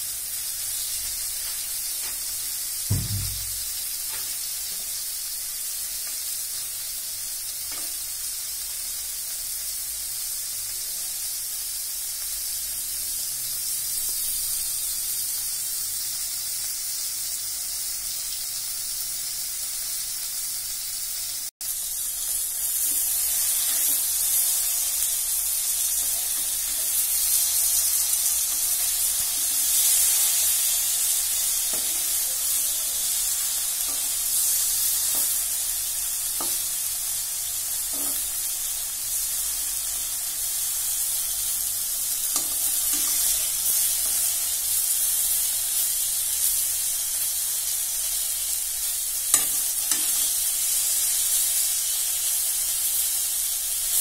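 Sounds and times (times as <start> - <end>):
food frying in oil: 0.0 - 54.0.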